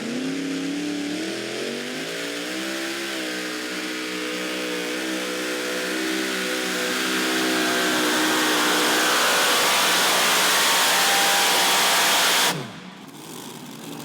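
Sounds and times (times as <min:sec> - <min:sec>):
tractor engine revving: 0:00.0 - 0:14.0.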